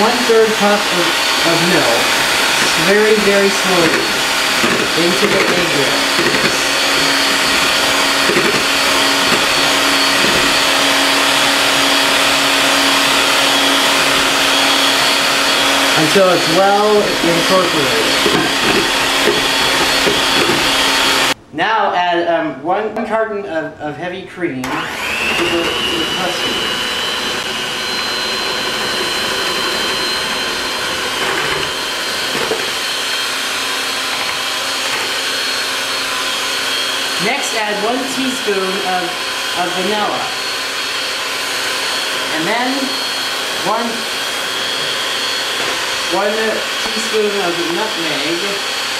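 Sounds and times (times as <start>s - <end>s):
electric hand mixer whisking: 0.0s - 21.4s, 24.6s - 48.9s.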